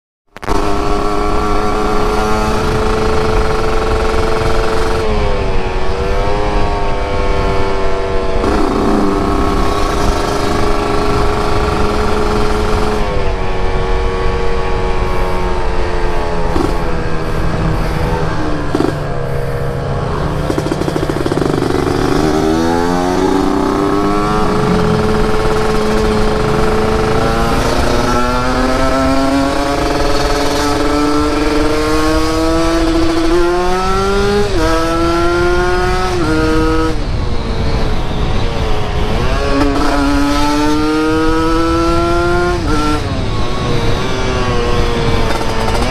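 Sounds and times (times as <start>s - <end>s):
motorcycle two-stroke engine running: 0.4s - 36.9s, 39.0s - 45.9s.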